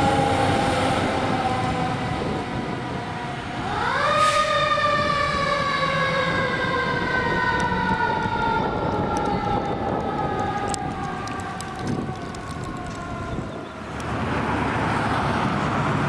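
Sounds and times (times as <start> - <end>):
emergency siren winding down: 0.0 - 14.7
vehicle rumble: 0.0 - 16.0.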